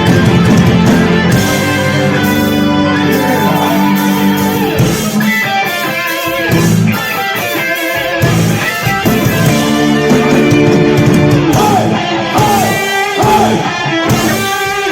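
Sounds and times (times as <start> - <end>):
electric guitar: 0.0 - 14.9
live rock band playing: 0.0 - 14.9.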